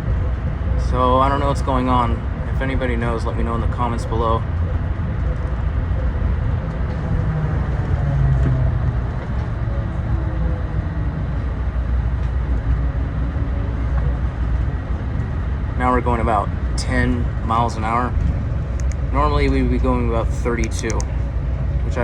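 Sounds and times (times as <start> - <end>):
faint motor hum: 0.0 - 22.0
train low rumble: 0.0 - 22.0.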